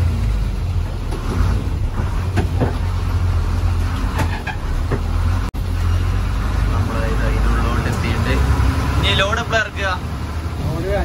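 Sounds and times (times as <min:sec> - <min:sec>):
diesel lorry engine rumbling: 0:00.0 - 0:11.0.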